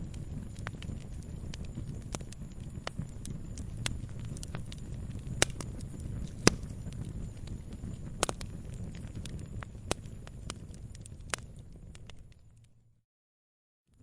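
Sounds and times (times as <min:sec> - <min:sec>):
sharp fire pops: 0:00.0 - 0:12.7
campfire crackling: 0:00.0 - 0:12.8.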